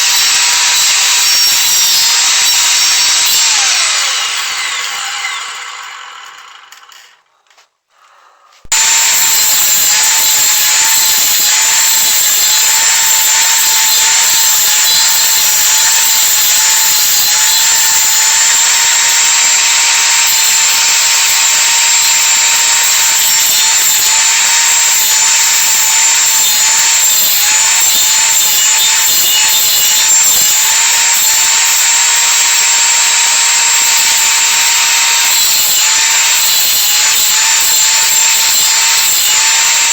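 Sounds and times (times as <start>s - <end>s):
lathe cutting wood: 0.0s - 7.3s, 8.7s - 39.9s.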